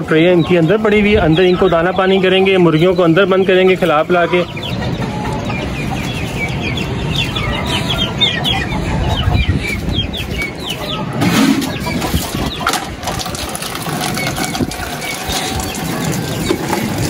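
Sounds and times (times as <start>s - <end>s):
chicks peeping: 0.0s - 17.0s
hens clucking: 0.0s - 17.0s
wind rumble on microphone: 0.8s - 2.4s, 4.8s - 17.0s.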